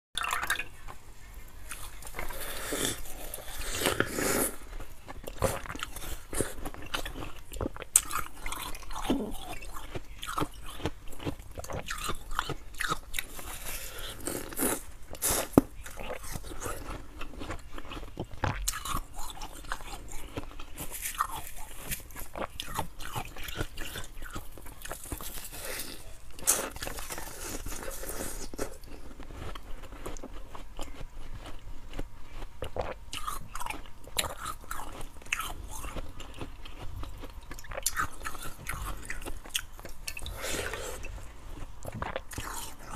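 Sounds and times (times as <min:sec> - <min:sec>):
ice being chewed and crunched: 0:01.6 - 0:42.9.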